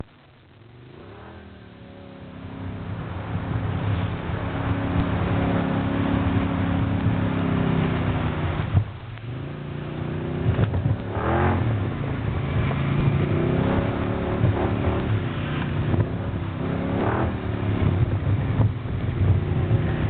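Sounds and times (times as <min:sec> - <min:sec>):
off-road vehicle engine revving: 0:00.7 - 0:20.0.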